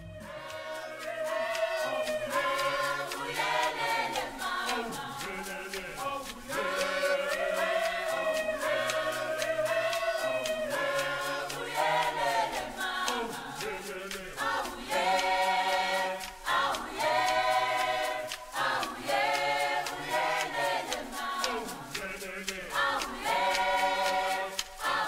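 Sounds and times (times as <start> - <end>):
choir singing in harmony: 0.0 - 25.0
ticking percussion beat: 0.0 - 25.0.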